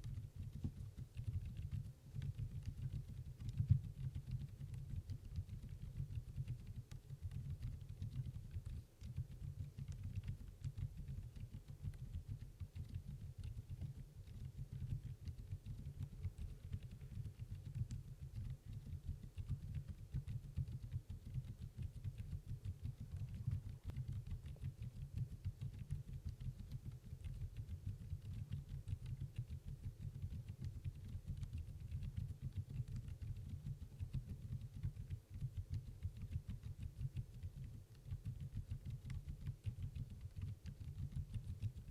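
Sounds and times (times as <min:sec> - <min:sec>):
quiet keyboard typing: 0:00.0 - 0:41.9.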